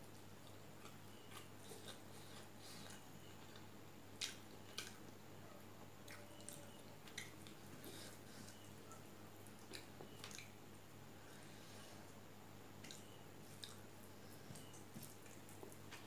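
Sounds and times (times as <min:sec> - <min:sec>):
quiet chewing: 0:00.0 - 0:16.0.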